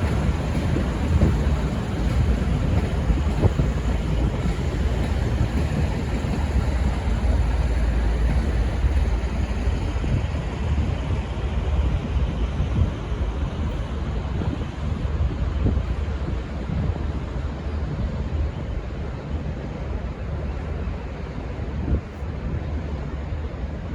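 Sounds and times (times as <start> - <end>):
diesel railcar rumble: 0.0 - 23.9.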